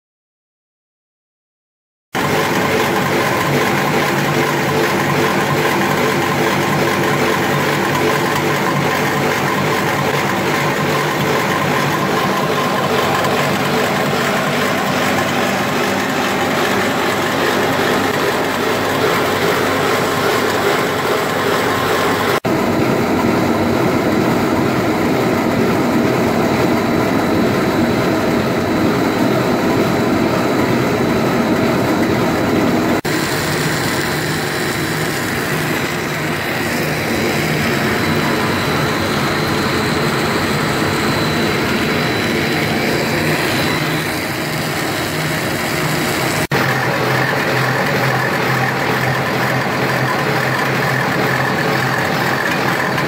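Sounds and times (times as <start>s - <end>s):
machine drone: 2.2s - 53.0s.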